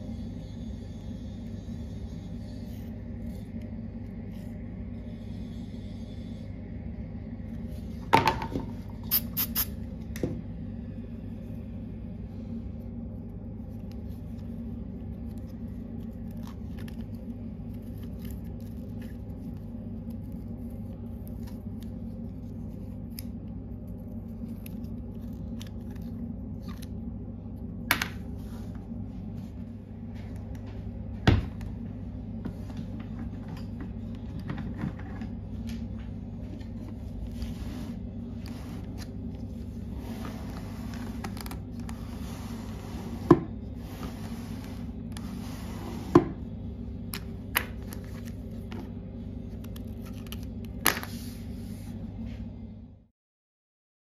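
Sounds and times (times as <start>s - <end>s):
steady low hum: 0.0s - 53.1s.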